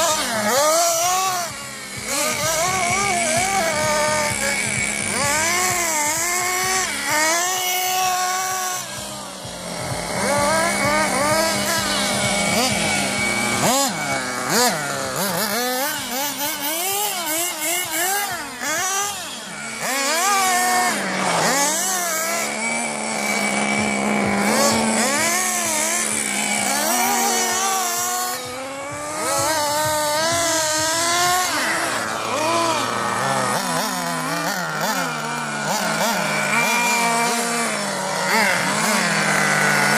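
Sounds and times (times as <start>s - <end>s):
toy car motor revving: 0.0s - 39.9s.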